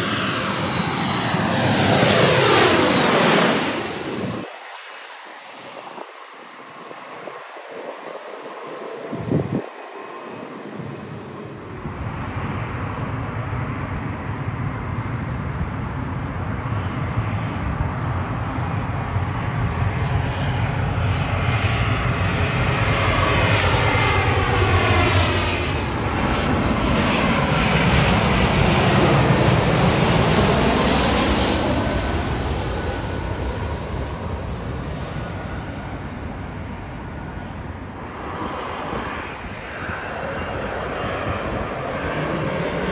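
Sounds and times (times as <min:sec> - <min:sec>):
jet airliner passing overhead: 0:00.0 - 0:42.9.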